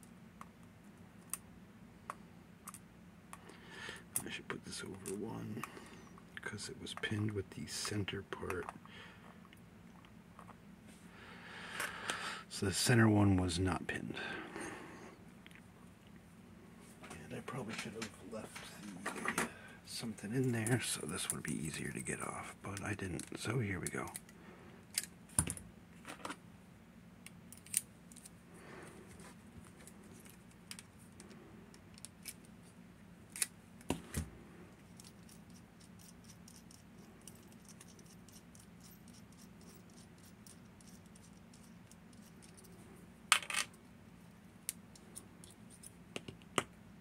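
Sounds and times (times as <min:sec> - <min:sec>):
faint low hum: 0:00.0 - 0:47.0.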